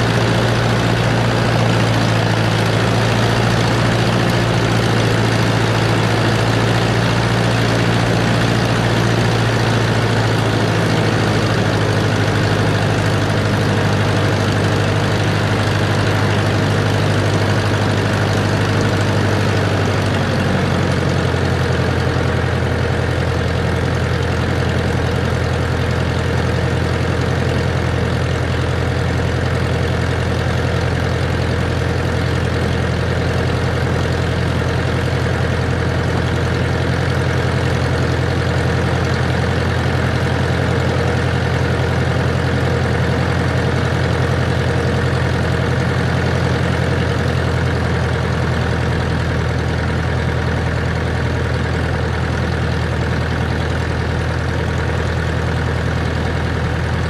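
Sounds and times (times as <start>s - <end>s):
small plane engine and propeller: 0.0s - 57.0s.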